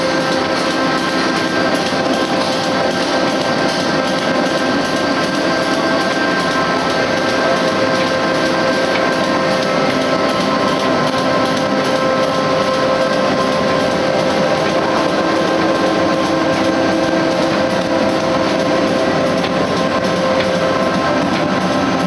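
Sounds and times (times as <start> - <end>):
constant machine hum: 0.0 - 22.0
printing machine clatter: 0.0 - 22.0.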